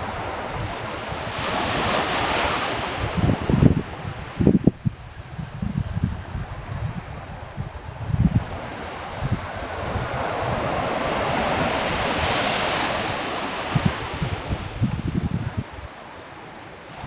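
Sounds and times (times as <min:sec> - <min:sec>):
wave breaking on beach: 0:00.0 - 0:17.0
wind buffeting microphone: 0:00.0 - 0:17.0.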